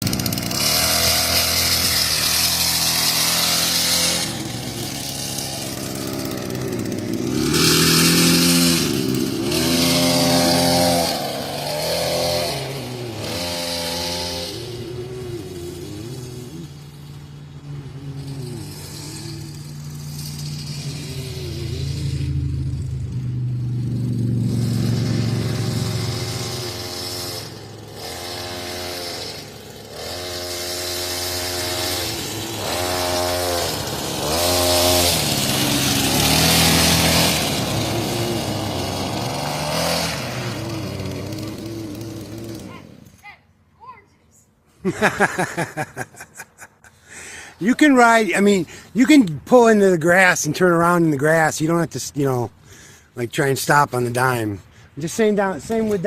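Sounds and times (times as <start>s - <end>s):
dirt bike engine revving: 0.0s - 43.3s, 44.8s - 56.0s.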